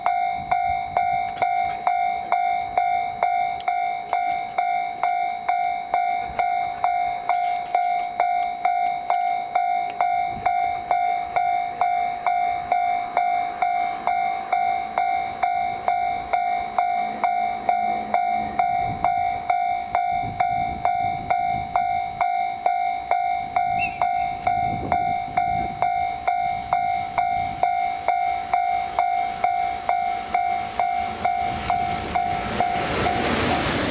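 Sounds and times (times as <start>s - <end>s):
level crossing bell ringing: 0.0s - 33.9s
train rumble: 0.0s - 33.9s.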